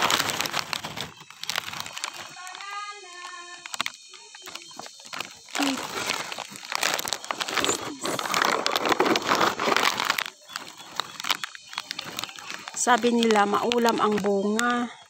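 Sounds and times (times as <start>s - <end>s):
leaves and branches rustling: 0.0s - 15.0s.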